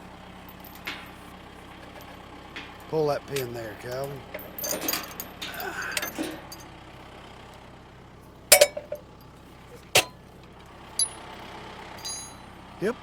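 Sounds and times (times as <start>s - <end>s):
truck engine idling: 0.0s - 13.0s
trailer hitch metal clinks: 0.2s - 6.9s, 8.4s - 12.7s.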